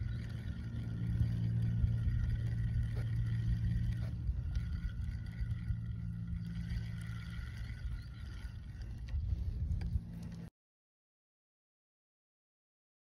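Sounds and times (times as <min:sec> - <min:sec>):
distant motorboat engine droning: 0:00.0 - 0:10.5.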